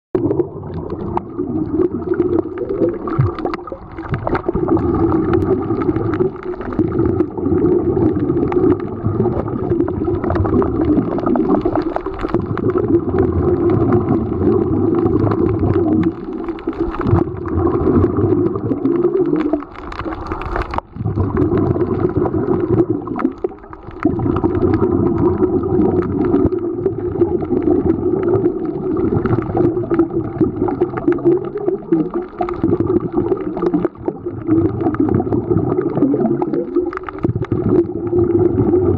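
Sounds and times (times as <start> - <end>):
underwater bubbles gurgling: 0.1 - 38.9.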